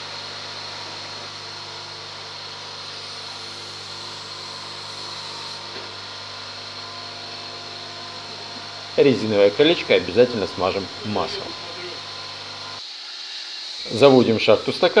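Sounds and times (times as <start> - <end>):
machine hum with high whine: 0.0 - 12.9.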